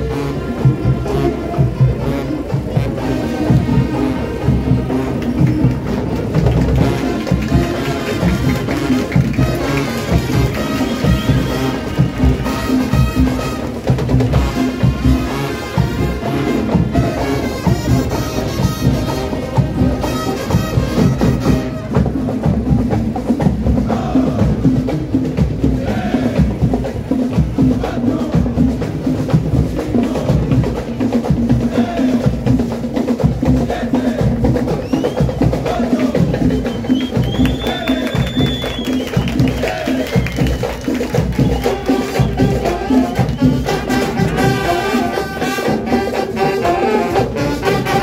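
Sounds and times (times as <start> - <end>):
drums and wood-block percussion: 0.0 - 48.0.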